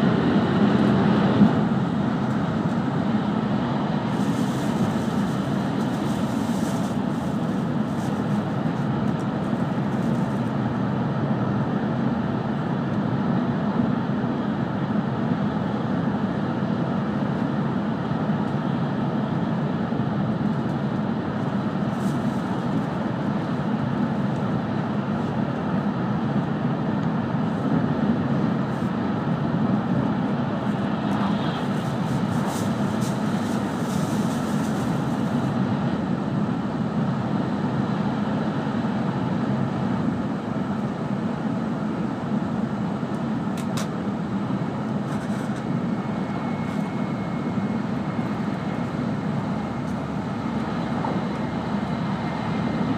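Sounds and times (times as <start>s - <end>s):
train rumble inside passenger car: 0.0s - 52.9s.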